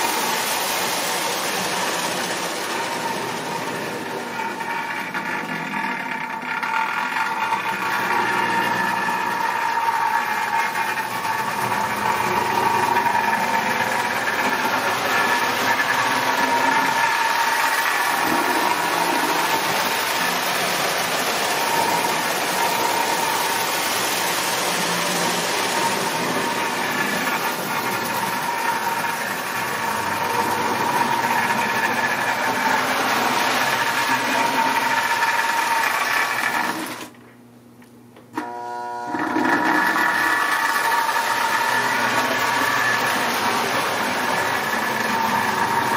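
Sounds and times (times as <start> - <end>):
wheels rattling on metal track: 0.0 - 37.1
electric motor whine: 0.0 - 37.2, 38.4 - 45.9.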